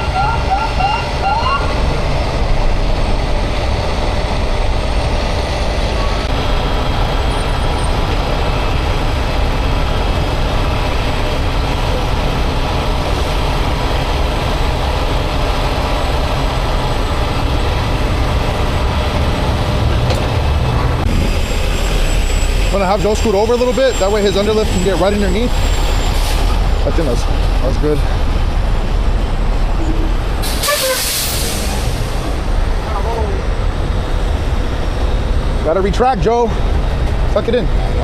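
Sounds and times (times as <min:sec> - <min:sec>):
heavy truck engine running: 0:00.0 - 0:38.0.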